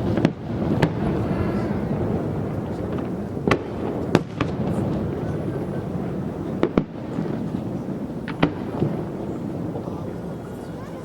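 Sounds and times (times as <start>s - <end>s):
fireworks banging: 0.0s - 11.0s.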